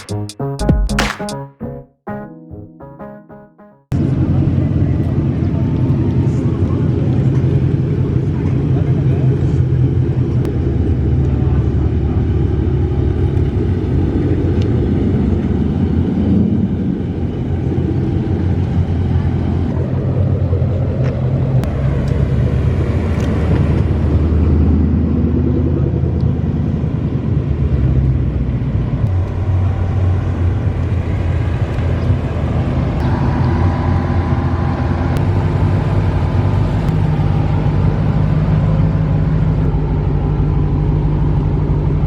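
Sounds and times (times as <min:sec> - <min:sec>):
car engine drone: 0:03.9 - 0:42.0.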